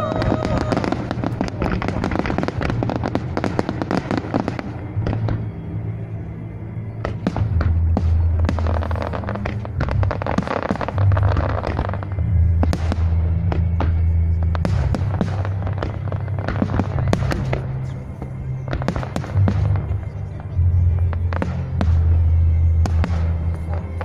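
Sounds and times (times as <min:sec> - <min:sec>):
fireworks bursting and crackling: 0:00.0 - 0:24.0
music with sustained low notes: 0:00.0 - 0:24.0.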